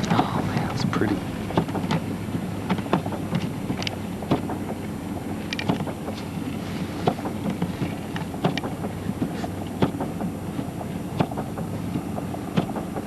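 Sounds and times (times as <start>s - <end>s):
vehicle engine and road hum: 0.0s - 13.0s.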